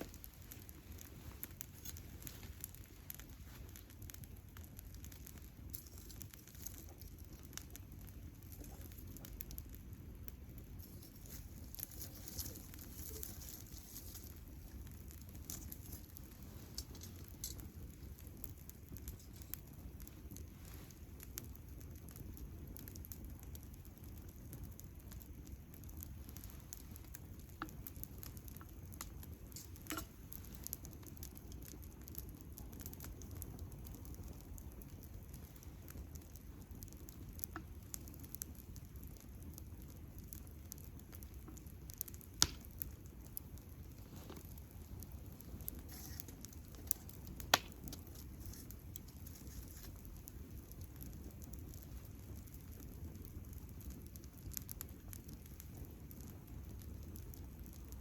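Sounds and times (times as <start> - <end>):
campfire crackling: 0.0 - 58.0
low steady rumble: 0.0 - 58.0.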